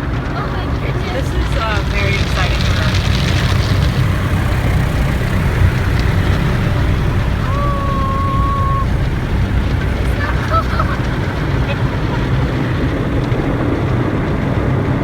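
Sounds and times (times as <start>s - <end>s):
car wash rumble and hiss: 0.0s - 15.0s.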